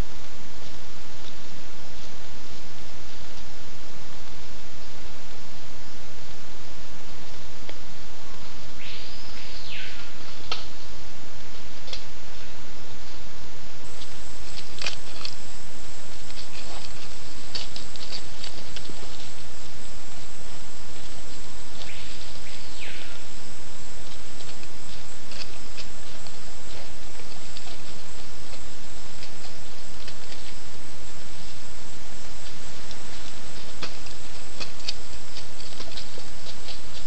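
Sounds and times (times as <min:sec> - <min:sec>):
animals rustling in dry leaves: 0:00.0 - 0:37.0
microphone hiss: 0:00.0 - 0:37.0.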